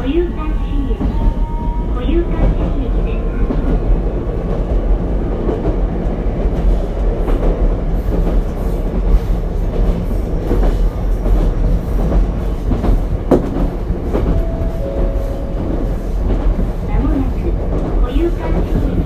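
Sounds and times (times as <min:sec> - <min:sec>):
train wheels rumbling: 0:00.0 - 0:19.0
rail joint clicks: 0:02.0 - 0:19.0.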